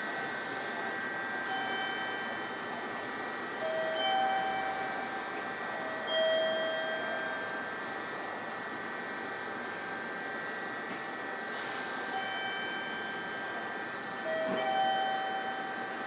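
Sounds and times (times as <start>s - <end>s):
electric train hum and whine: 0.0s - 16.0s.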